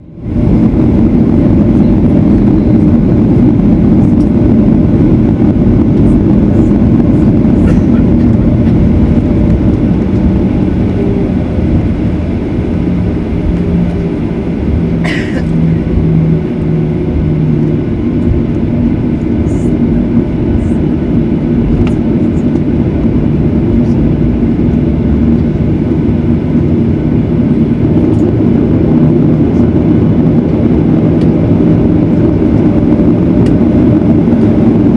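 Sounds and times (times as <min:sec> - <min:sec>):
jet engines and airframe rumble: 0:00.0 - 0:34.9.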